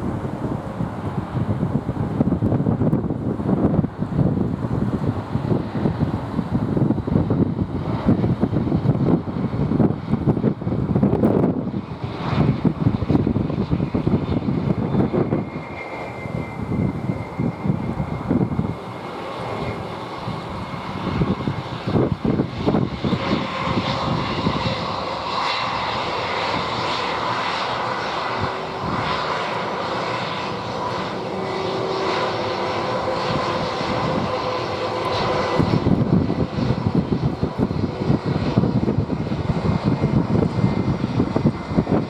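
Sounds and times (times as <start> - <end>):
jet engines running: 0.0 - 42.0
wind buffeting microphone: 0.0 - 42.0.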